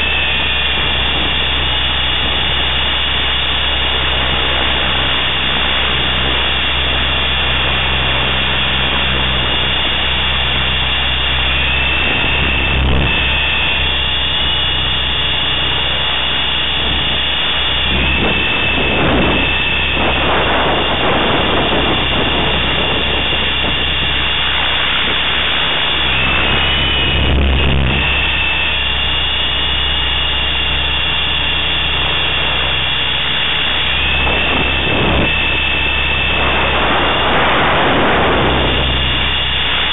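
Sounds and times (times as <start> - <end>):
rc helicopter motor whine: 0.0 - 39.9
rotor low hum: 0.0 - 39.9
rushing noise: 0.0 - 39.9.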